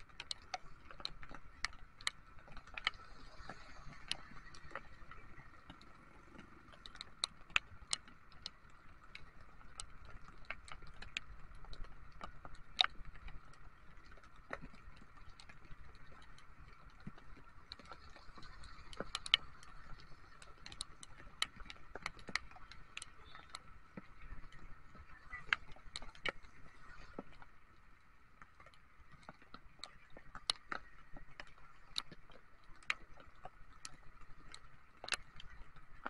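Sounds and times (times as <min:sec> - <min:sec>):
raindrops tapping on windscreen: 0:00.0 - 0:36.0.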